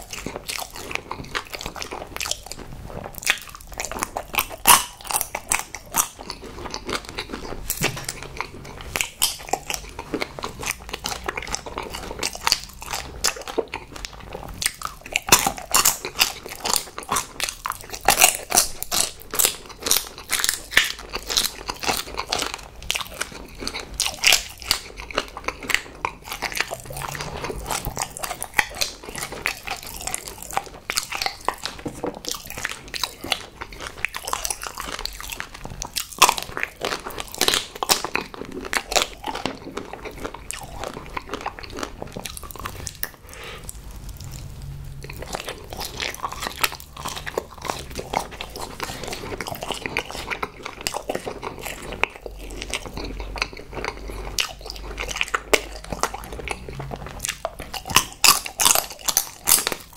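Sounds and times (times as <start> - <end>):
chewing sweets with mouth smacks: 0.0 - 59.9.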